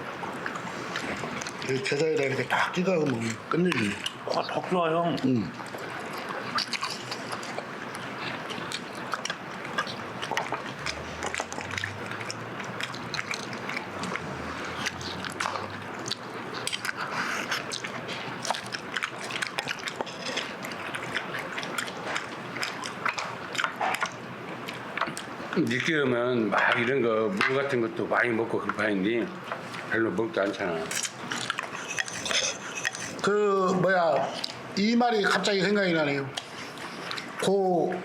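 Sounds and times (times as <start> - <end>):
person chewing and eating: 0.0 - 26.0, 29.4 - 35.6, 36.3 - 37.5.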